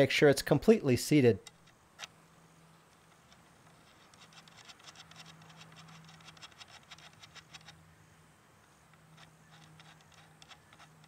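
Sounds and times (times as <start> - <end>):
scratching and ticking of metal parts: 1.4 - 7.8, 8.6 - 11.0.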